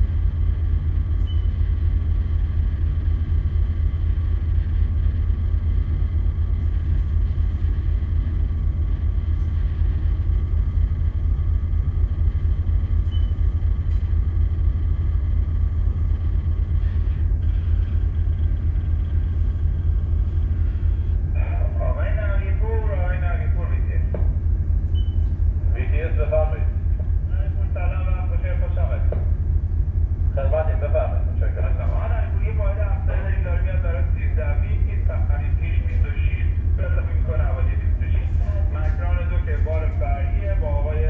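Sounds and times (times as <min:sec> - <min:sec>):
faint high-pitched hum: 0:00.0 - 0:41.0
ship engine rumbling: 0:00.0 - 0:41.0.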